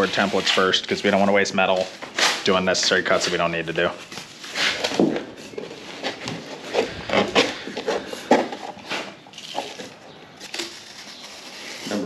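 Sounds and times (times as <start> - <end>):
cardboard scraping on plastic: 0.0 - 12.0.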